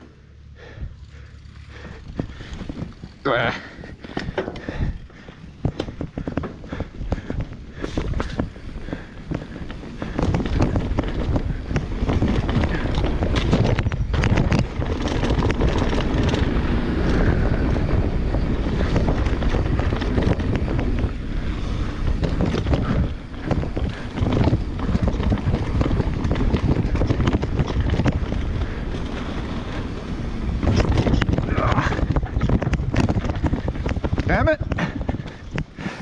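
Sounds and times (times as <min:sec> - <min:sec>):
tyre noise on dirt: 0:00.0 - 0:36.0
bike knocks and rattles: 0:00.6 - 0:36.0
wind buffeting microphone: 0:00.6 - 0:36.0.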